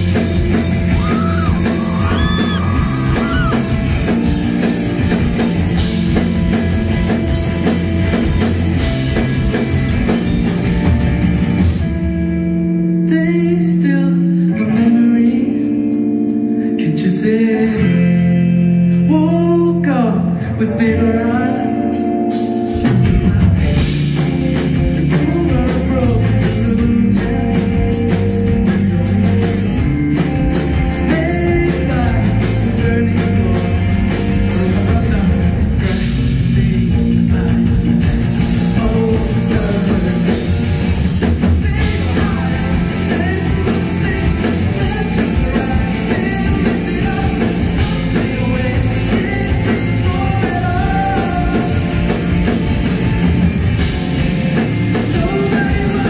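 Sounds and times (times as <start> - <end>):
man singing: 0.0 - 7.2, 12.9 - 18.2, 18.9 - 29.9, 30.7 - 56.0
rock band playing: 0.0 - 56.0.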